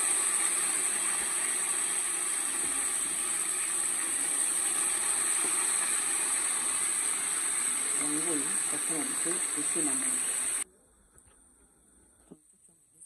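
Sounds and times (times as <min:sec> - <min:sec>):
fish sizzling in oil: 0:00.0 - 0:10.6.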